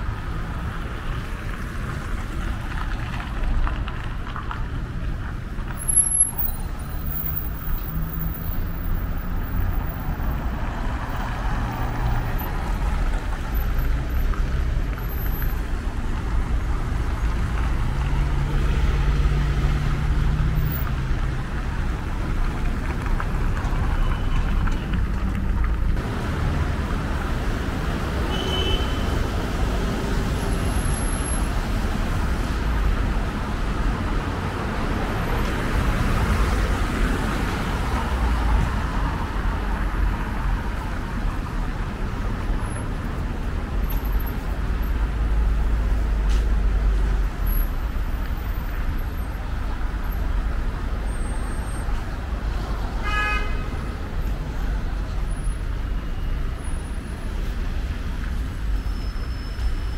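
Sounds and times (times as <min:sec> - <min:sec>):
cars and trucks passing: 0:00.0 - 0:59.9.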